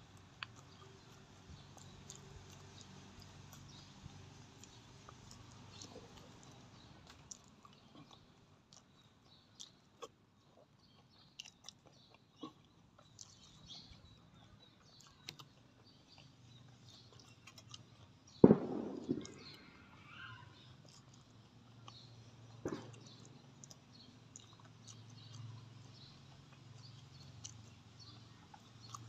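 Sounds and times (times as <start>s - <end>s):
person chewing: 0.0s - 19.6s, 20.6s - 29.0s.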